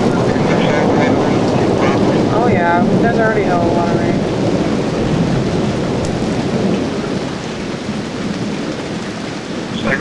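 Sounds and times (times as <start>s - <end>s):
rolling thunder: 0.0s - 10.0s
steady rain: 0.0s - 10.0s.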